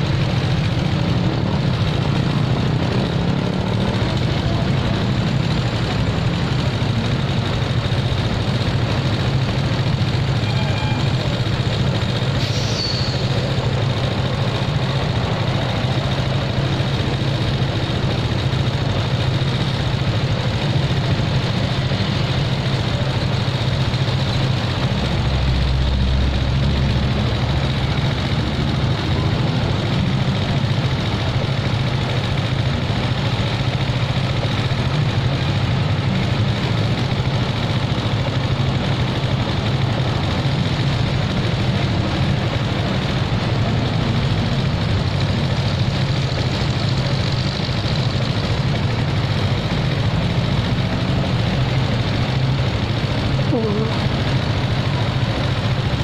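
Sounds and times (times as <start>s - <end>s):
motorcycle engine idling: 0.0s - 56.0s
street traffic: 0.0s - 56.0s.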